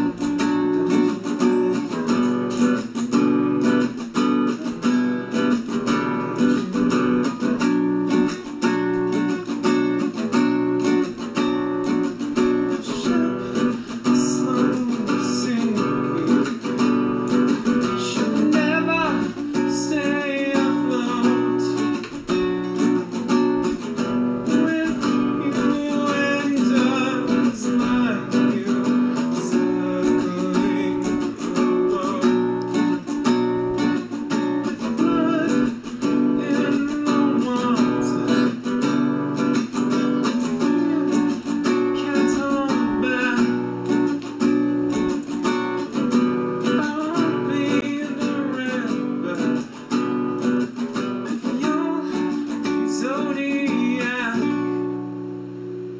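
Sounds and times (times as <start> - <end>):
person singing: 0.0 - 5.5, 11.8 - 22.2, 23.7 - 54.9
acoustic guitar strummed: 0.0 - 55.9.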